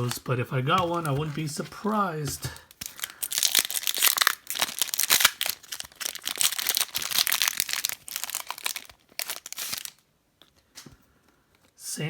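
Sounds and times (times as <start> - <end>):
card pack wrapper crinkling: 0.0 - 10.0.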